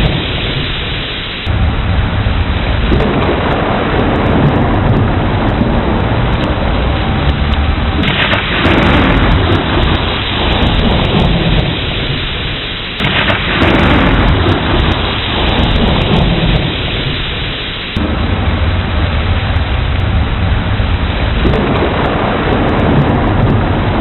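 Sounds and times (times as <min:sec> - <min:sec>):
heavy rain: 0:00.0 - 0:24.0
thunder rolling: 0:00.0 - 0:24.0.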